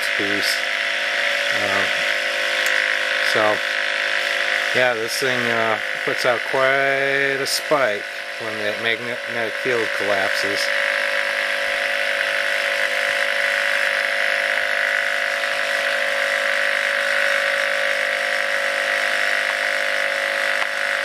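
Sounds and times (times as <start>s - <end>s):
electric motor humming and whining: 0.0s - 21.0s.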